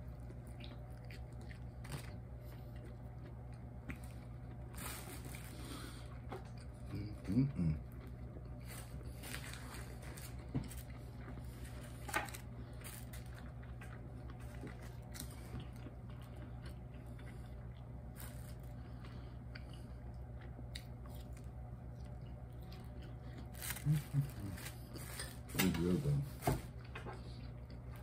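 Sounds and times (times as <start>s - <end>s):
person chewing: 0.0s - 25.5s, 26.7s - 28.0s
steady low hum: 0.0s - 28.0s.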